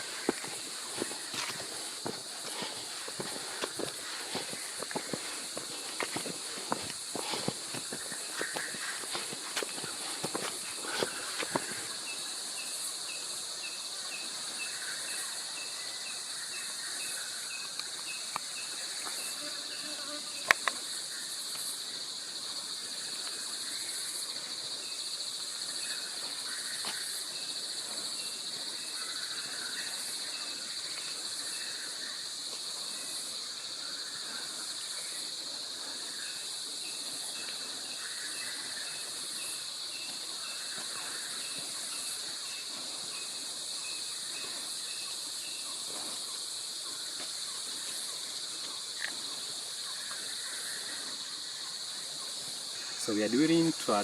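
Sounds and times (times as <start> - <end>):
insect chorus shrill drone: 0.0 - 54.0
pulsing insect chirp: 0.0 - 54.0.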